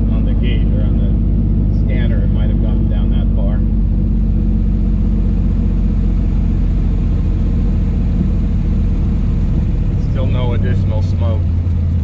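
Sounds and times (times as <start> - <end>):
car engine low even note: 0.0 - 12.0.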